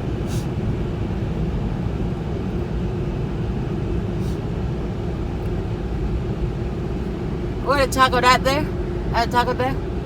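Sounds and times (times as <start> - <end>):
faint steady hum: 0.0 - 10.0
low roar inside car cabin: 0.0 - 10.0.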